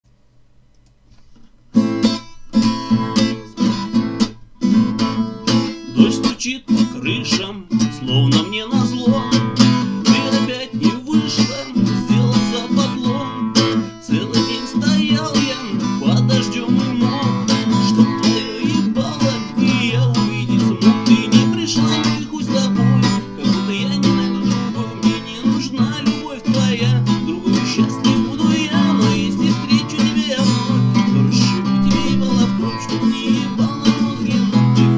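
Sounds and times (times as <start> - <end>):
acoustic guitar strumming: 1.4 - 34.9.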